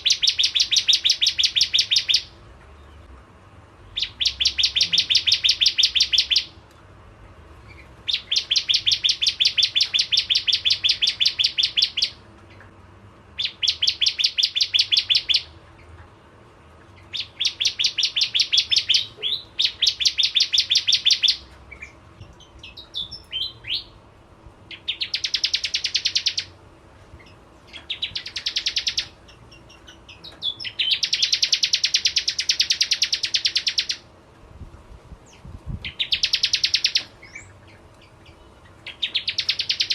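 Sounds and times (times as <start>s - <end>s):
bird singing fast trills: 0.0s - 3.1s, 3.9s - 6.6s, 7.7s - 12.6s, 13.4s - 15.6s, 17.0s - 24.0s, 24.7s - 26.6s, 27.2s - 34.1s, 35.3s - 39.9s
bird chirps: 0.0s - 3.2s, 3.9s - 6.6s, 7.6s - 12.7s, 13.4s - 16.0s, 16.8s - 24.0s, 24.7s - 26.6s, 27.2s - 34.1s, 35.2s - 39.9s.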